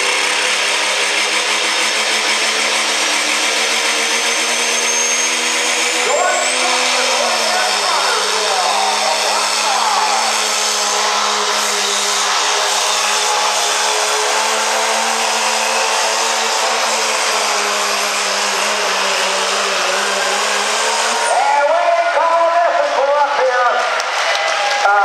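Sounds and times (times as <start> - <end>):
truck engine at full throttle: 0.0 - 25.0.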